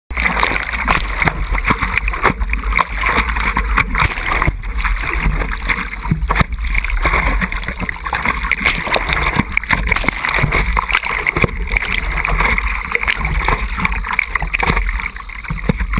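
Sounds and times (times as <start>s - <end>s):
water washing over surfboard: 0.1s - 15.9s
hand strokes splashing: 0.2s - 15.8s.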